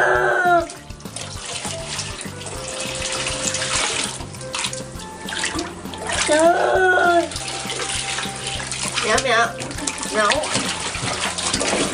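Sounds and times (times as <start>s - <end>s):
water sloshing and pouring: 0.2s - 11.9s.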